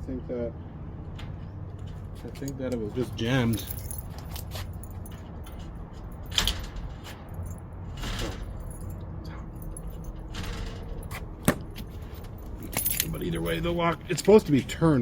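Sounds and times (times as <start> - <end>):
keys jingling: 1.8 - 14.7.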